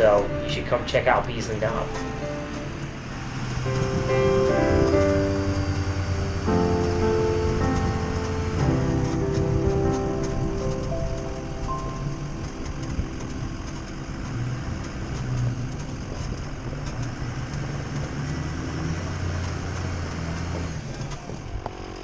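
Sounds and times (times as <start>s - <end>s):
diesel engine idling: 0.0s - 21.5s.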